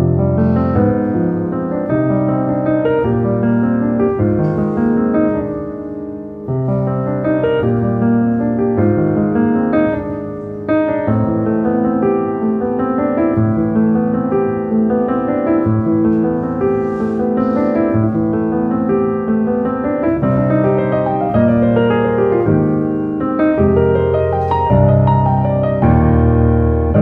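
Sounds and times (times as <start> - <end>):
gentle piano melody: 0.0 - 27.0.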